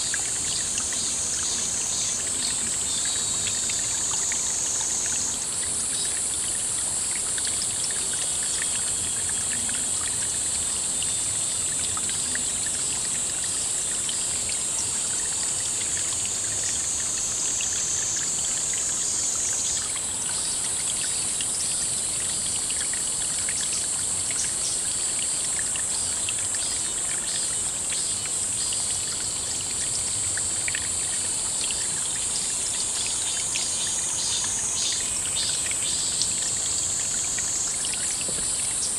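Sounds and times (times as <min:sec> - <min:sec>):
insects chorus: 0:00.0 - 0:38.9
trickling water: 0:00.0 - 0:38.9.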